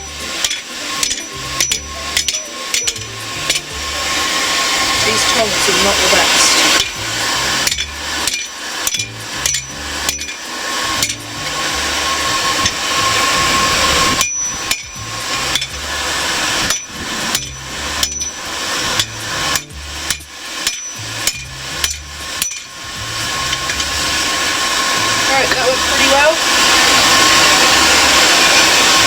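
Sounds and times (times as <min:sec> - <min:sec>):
hammer striking steel on anvil: 0:00.0 - 0:13.3, 0:14.0 - 0:24.0
forge air blower hiss: 0:00.0 - 0:29.0.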